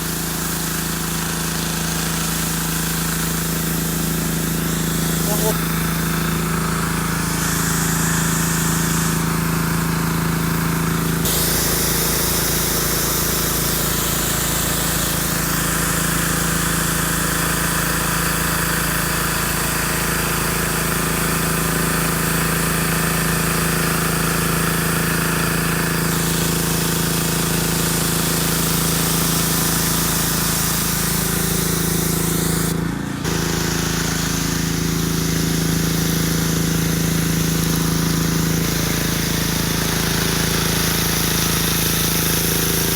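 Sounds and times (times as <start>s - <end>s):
diesel engine driving a pump: 0.0s - 42.9s
hiss of water spray: 0.1s - 42.9s.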